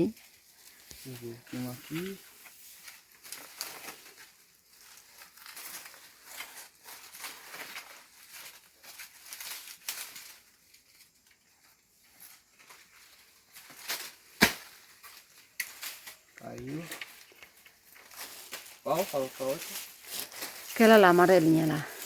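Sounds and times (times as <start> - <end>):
leaves and branches rustling: 0.0 - 22.0.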